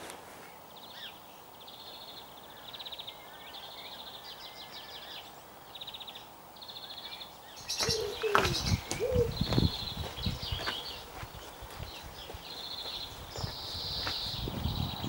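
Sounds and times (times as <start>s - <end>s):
songbirds trilling: 0.5s - 15.0s.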